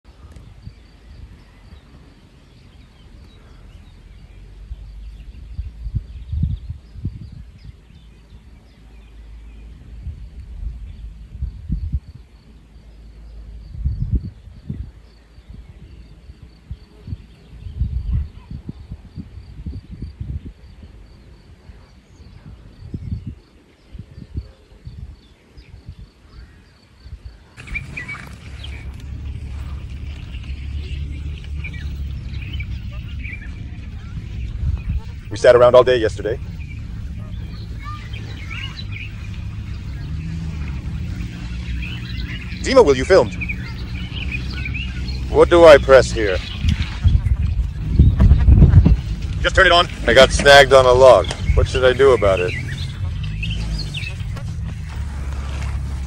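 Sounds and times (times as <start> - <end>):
small birds chirping: 0.0 - 56.0
wind buffeting microphone: 0.1 - 56.0.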